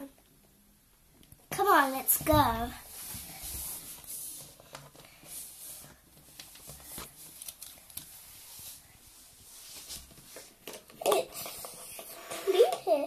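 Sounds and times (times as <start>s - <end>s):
plastic toys tapping and scraping: 1.2s - 8.8s, 9.7s - 13.0s.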